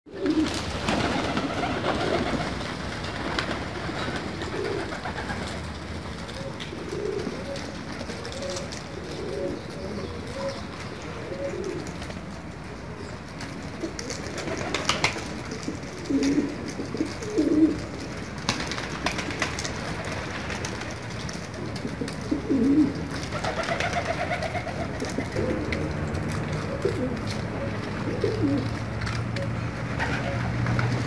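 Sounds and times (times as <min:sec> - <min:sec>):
pigeons cooing: 0:00.1 - 0:12.2, 0:13.7 - 0:31.0.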